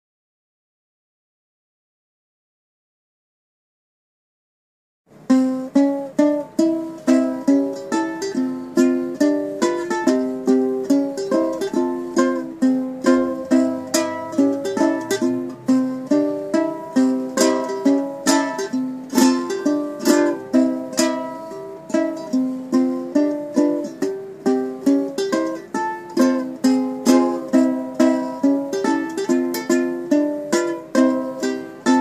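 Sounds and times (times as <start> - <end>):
ukulele plucked notes and chords: 5.1 - 32.0.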